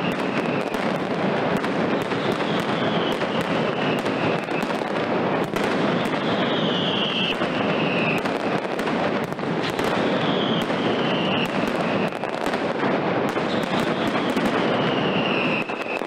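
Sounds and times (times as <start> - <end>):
firecracker barrage: 0.0 - 16.0
whistling fireworks: 0.0 - 16.0.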